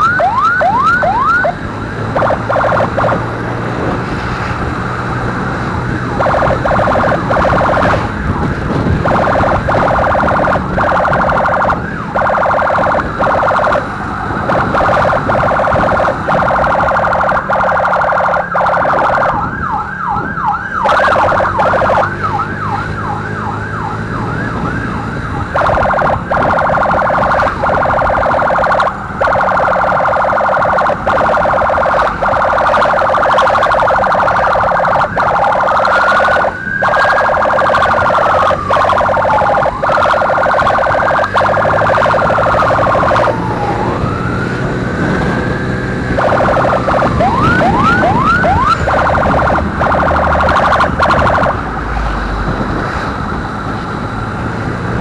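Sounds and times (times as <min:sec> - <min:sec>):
electronic emergency siren: 0:00.0 - 0:55.0
motorcycle engine humming: 0:00.0 - 0:55.0.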